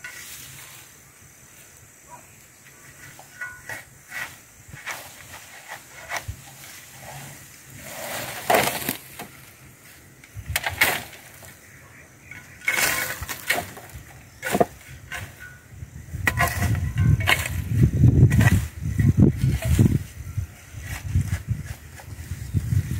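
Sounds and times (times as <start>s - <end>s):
hand tool scraping weeds: 0.0s - 1.0s, 2.7s - 11.5s, 12.4s - 22.9s
tool scraping soil: 0.0s - 1.0s, 2.7s - 11.5s, 12.4s - 22.9s.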